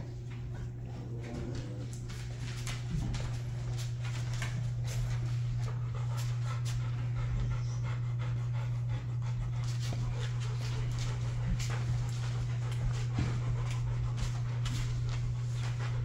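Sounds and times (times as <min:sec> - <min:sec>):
dogs panting: 0:00.0 - 0:16.0
steady low hum: 0:00.0 - 0:16.0.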